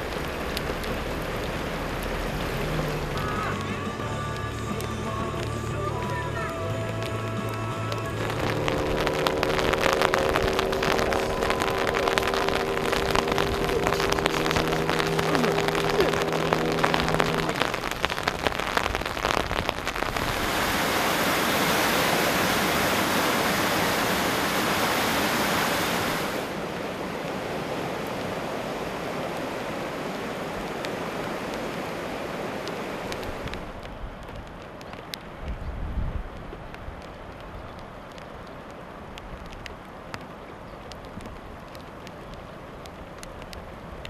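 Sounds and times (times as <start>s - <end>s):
rain pattering: 0.0s - 44.0s
rushing floodwater: 0.0s - 44.0s.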